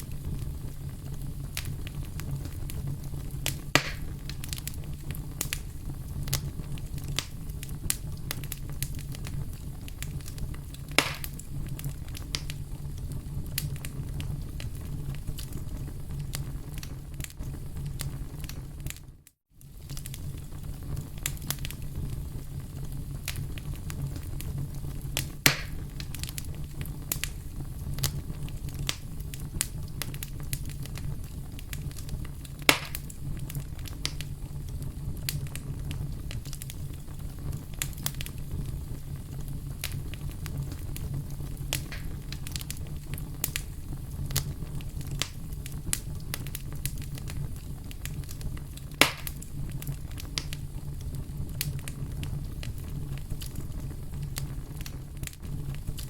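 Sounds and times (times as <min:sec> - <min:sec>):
fireplace fire crackling: 0:00.0 - 0:56.0
loud fire pops: 0:00.0 - 0:56.0.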